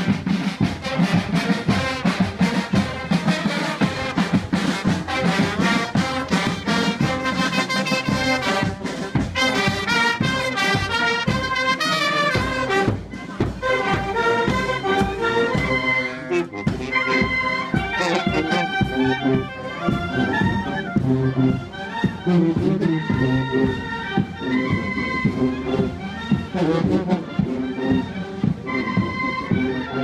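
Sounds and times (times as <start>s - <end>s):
brass instrumental music: 0.0s - 30.0s.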